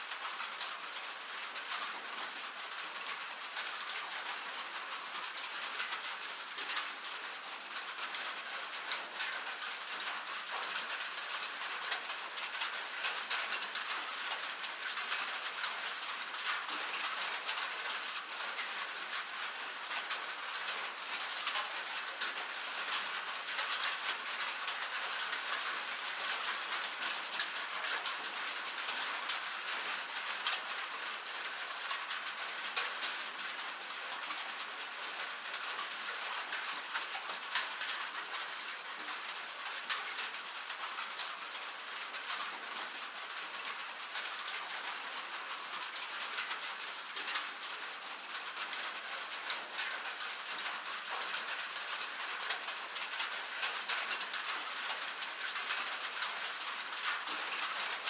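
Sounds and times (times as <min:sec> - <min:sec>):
rain on a metal roof: 0:00.0 - 0:58.0.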